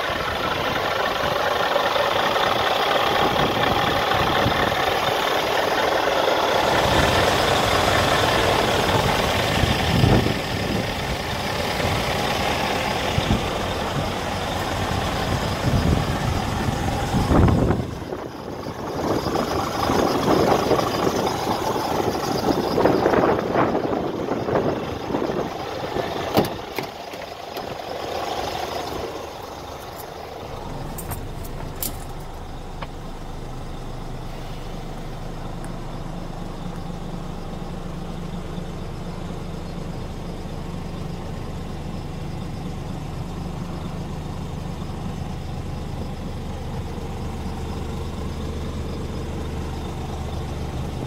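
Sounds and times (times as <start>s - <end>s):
diesel truck engine idling: 0.0s - 51.0s.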